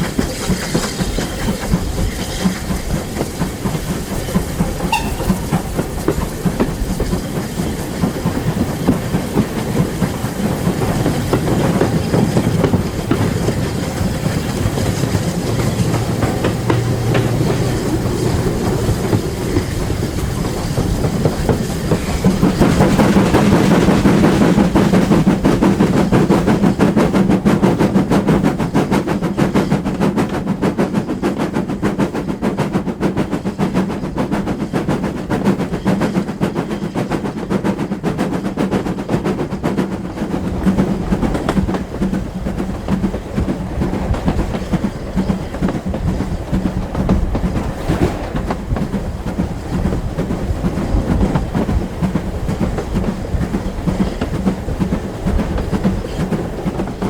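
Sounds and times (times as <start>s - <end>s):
steady train hum: 0.0s - 57.0s
train wheels clicking over rail joints: 0.0s - 57.0s.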